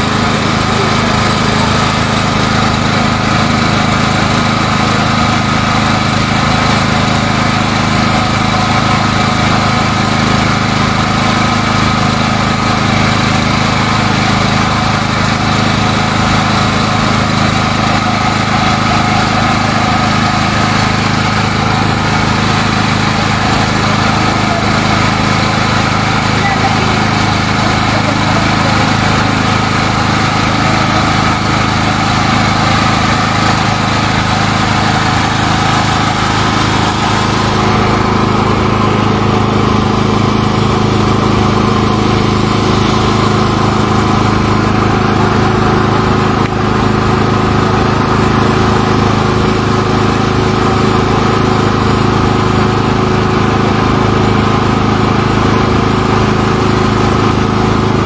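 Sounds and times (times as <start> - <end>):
loud engine drone: 0.0 - 58.0.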